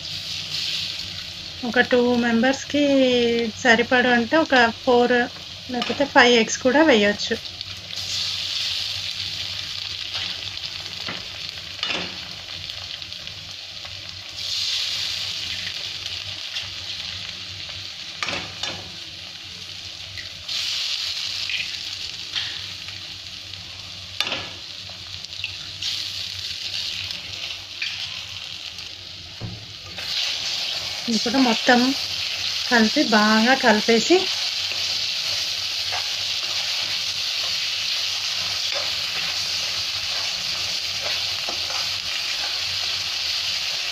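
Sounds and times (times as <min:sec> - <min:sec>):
oil sizzling in a pan: 0:00.0 - 0:43.9.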